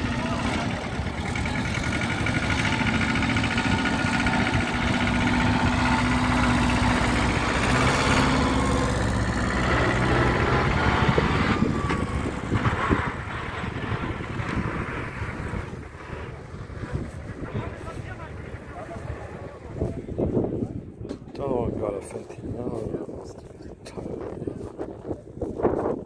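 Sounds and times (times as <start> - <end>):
tractor engine idling: 0.0 - 25.2.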